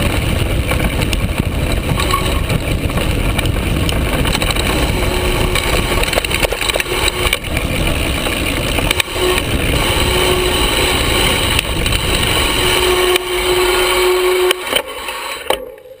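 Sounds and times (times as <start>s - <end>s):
bike rattling and knocking: 0.0s - 13.3s
bike tyre and wind noise: 0.0s - 16.0s.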